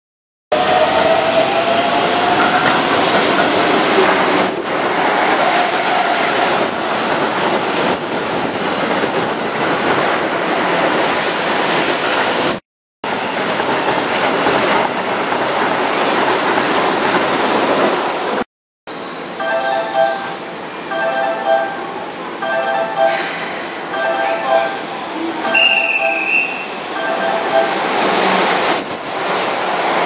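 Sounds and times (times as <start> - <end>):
train wheels rolling on rails: 0.6 - 18.4, 23.1 - 30.0.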